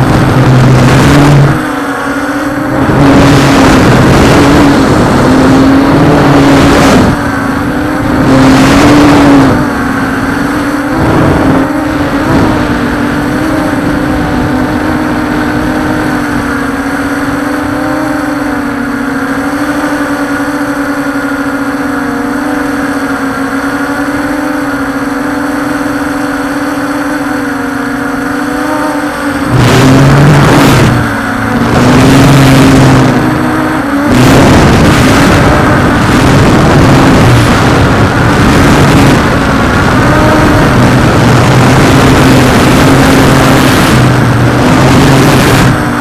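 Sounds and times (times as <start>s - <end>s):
drone propellers whirring: 0.0s - 46.0s
wind rushing on microphone: 0.0s - 46.0s.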